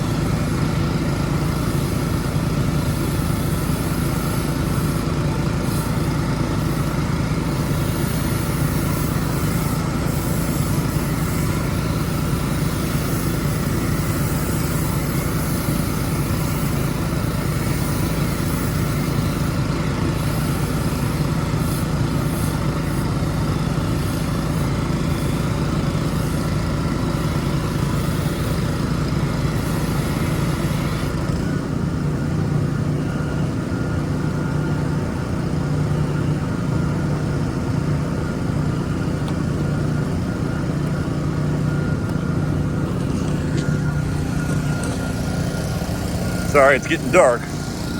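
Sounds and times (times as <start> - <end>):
pressure washer engine running: 0.0 - 47.9.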